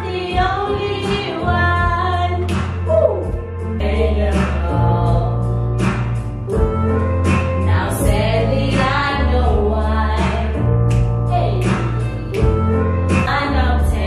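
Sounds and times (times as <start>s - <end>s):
song with heavy bass: 0.0s - 14.0s.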